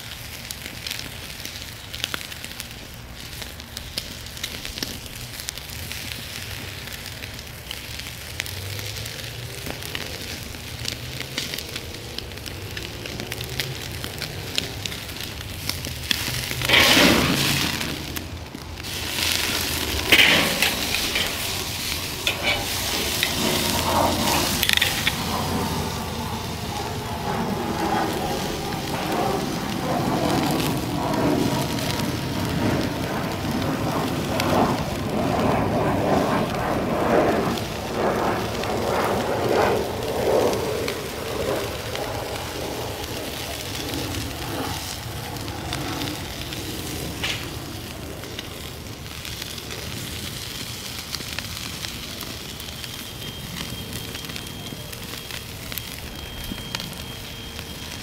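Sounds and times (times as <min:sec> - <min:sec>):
steak sizzling and crackling on grill: 0:00.0 - 0:58.0.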